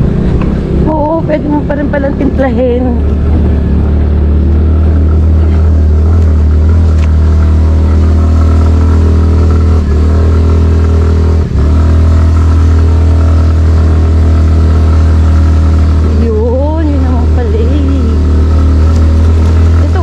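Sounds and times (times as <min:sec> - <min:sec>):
scooter engine running under load: 0:00.0 - 0:20.0.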